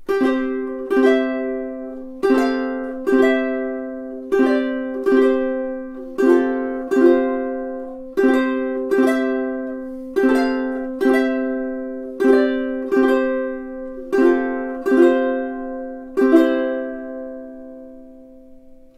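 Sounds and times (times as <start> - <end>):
ukulele playing chords: 0.0 - 18.9.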